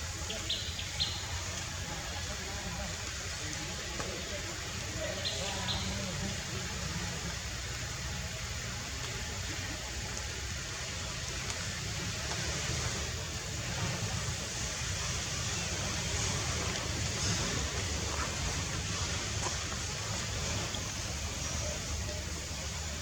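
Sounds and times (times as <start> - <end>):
even hiss: 0.0 - 23.0.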